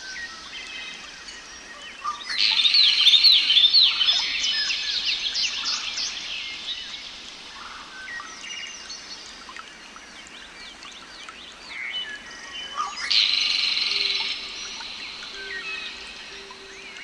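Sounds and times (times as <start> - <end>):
small birds chirping and singing: 0.0 - 17.0.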